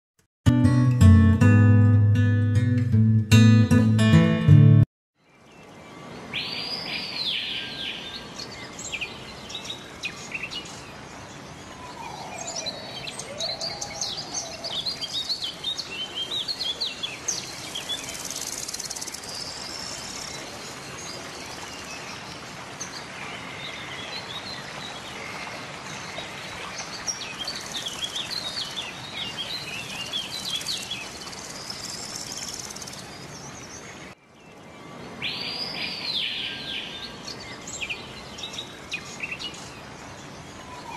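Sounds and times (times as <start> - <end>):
outdoor background noise: 5.2 - 40.9
small birds chirping and trilling: 5.3 - 25.1, 26.6 - 40.9.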